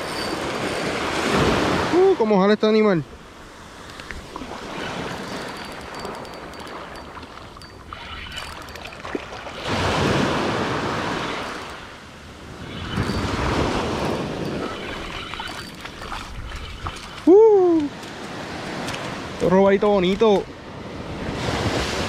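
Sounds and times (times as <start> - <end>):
small waves breaking on sand: 0.0 - 5.4, 9.0 - 22.0.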